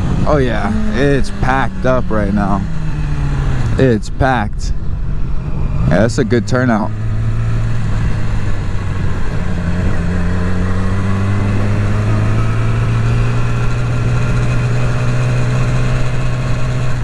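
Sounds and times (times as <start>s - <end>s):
motorcycle engine running at low revs: 0.0s - 4.0s, 4.8s - 17.0s.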